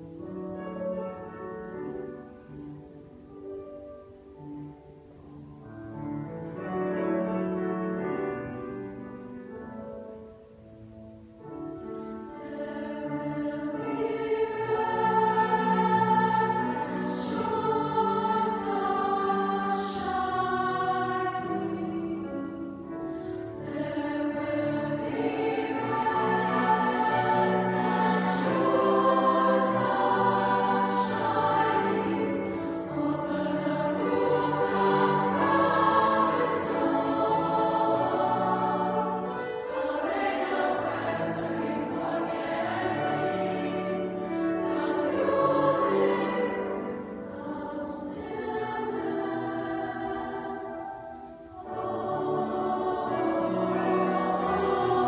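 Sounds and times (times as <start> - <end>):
children's choir singing: 0.0 - 5.1, 11.2 - 55.0.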